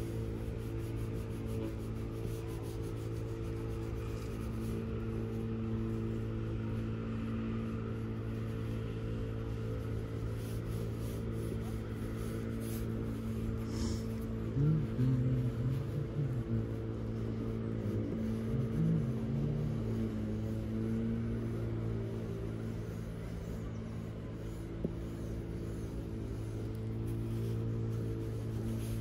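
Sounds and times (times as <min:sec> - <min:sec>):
pencil scratching on paper: 0:00.0 - 0:29.0
steady low hum: 0:00.0 - 0:29.0.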